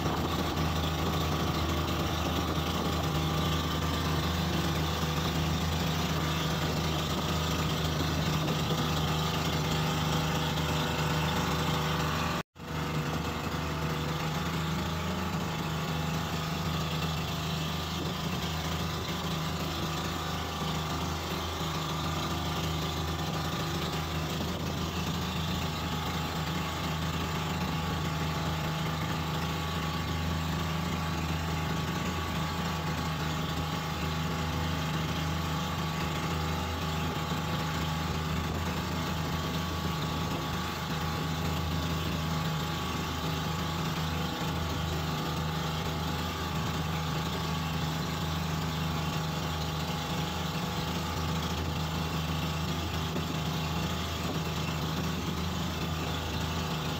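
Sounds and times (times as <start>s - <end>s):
boat engine droning: 0.0s - 56.9s
water rushing past hull: 0.0s - 56.9s.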